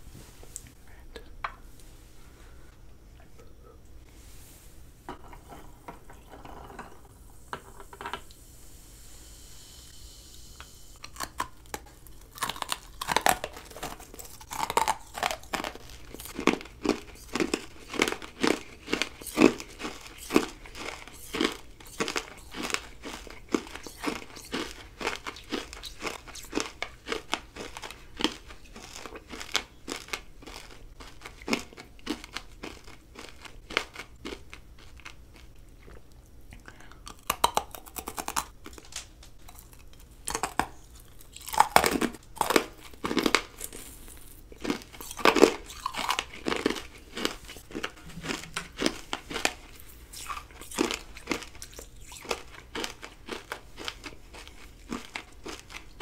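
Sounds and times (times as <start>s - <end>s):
hard candy crunching: 11.0s - 56.0s.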